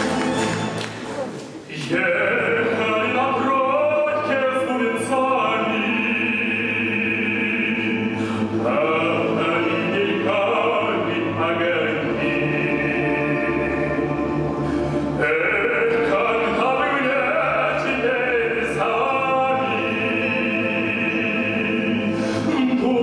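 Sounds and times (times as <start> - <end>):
operatic singing: 0.0 - 23.0
orchestra playing: 0.0 - 23.0.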